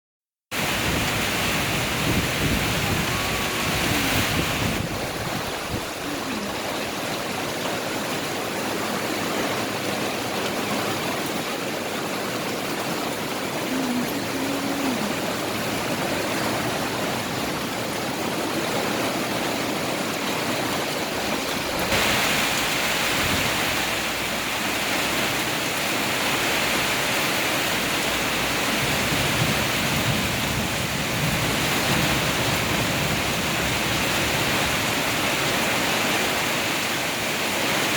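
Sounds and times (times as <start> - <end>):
heavy rain in strong wind: 0.5 - 37.9.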